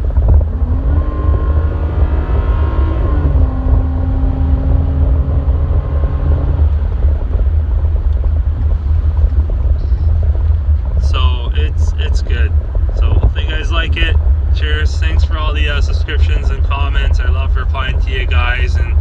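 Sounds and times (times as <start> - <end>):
car engine: 0.0 - 19.0
road rumble: 0.0 - 19.0.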